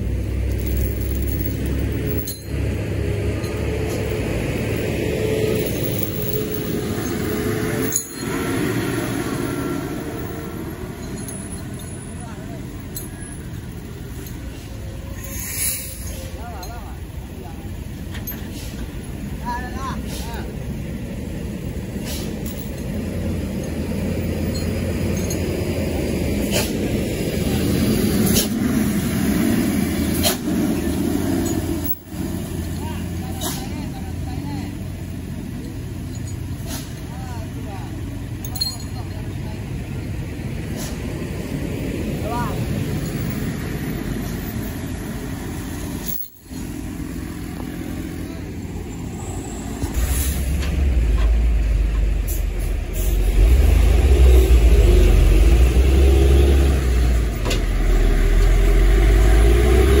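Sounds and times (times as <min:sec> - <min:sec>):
truck diesel engines idling: 0:00.0 - 1:00.0.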